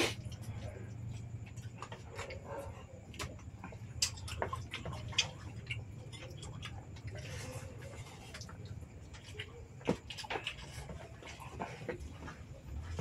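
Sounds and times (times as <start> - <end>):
mouths chewing and sucking: 0.0 - 13.0
steady low hum: 0.0 - 13.0.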